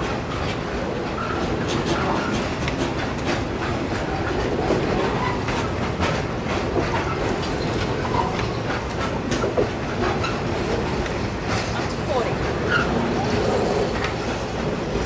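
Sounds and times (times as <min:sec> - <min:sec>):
train wheels rumbling on rail: 0:00.0 - 0:15.0
wheels clicking over rail joints: 0:00.0 - 0:15.0.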